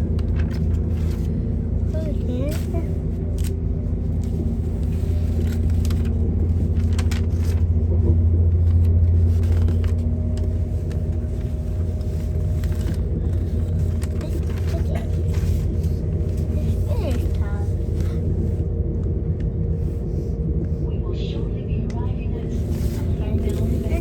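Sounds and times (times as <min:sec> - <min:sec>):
faint engine tones: 0:00.0 - 0:24.0
train rumble inside carriage: 0:00.0 - 0:24.0.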